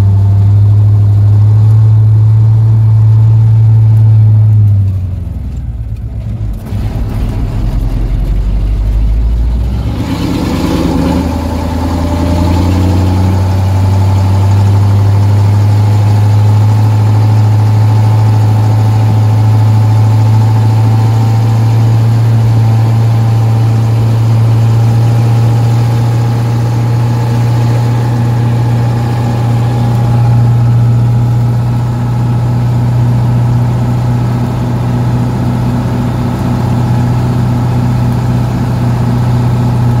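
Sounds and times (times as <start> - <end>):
vehicle engine droning: 0.0 - 40.0.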